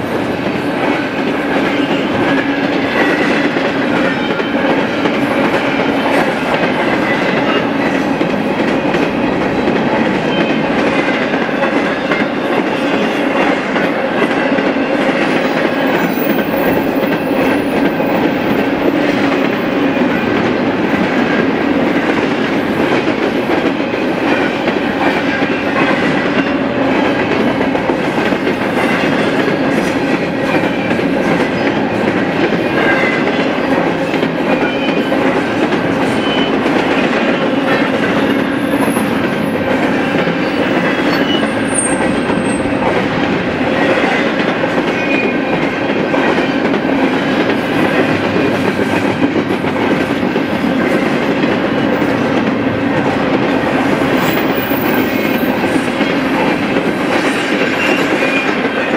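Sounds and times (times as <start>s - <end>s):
freight train cars rolling past: 0.0s - 58.9s.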